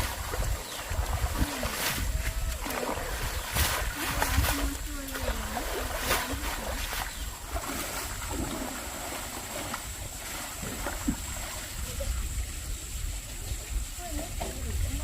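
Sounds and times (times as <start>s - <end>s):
water sloshing and splashing: 0.0s - 15.0s
wind rumbling on microphone: 0.0s - 15.0s.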